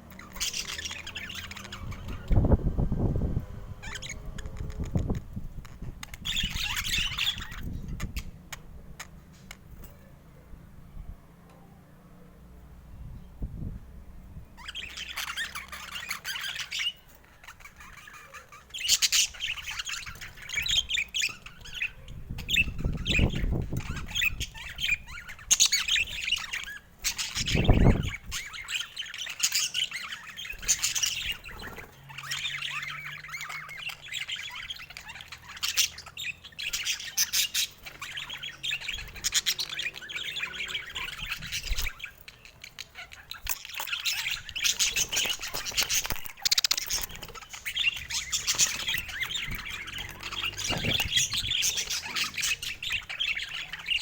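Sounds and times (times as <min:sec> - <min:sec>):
budgerigars chattering: 0:00.0 - 0:02.6, 0:03.8 - 0:09.6, 0:14.6 - 0:54.0.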